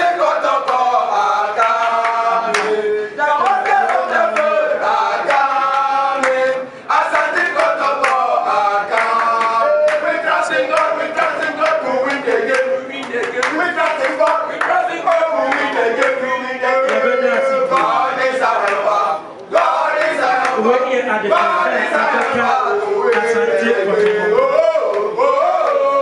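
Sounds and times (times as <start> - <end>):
voices singing a chant: 0.0 - 26.0.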